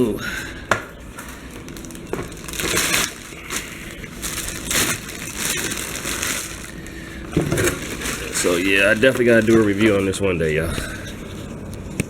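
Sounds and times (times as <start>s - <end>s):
cardboard and plastic wrap crinkling: 0.6s - 12.0s.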